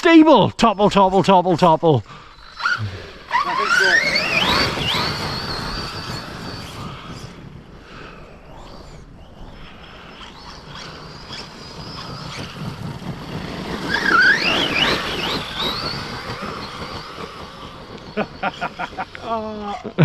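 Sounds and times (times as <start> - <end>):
electric motor whining: 2.1 - 20.0.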